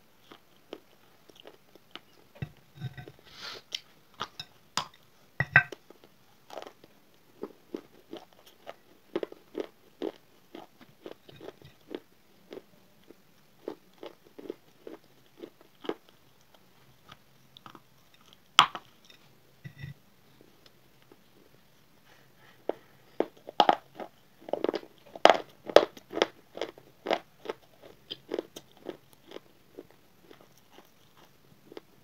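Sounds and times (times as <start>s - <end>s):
chewing gritty crunches: 0.2s - 5.0s, 5.7s - 19.2s, 22.8s - 32.0s.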